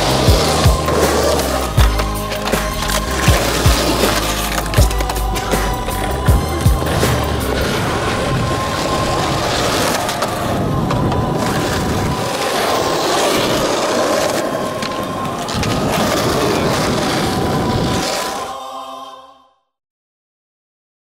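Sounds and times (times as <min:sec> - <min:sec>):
skateboard wheels rolling on asphalt: 0:00.0 - 0:18.6.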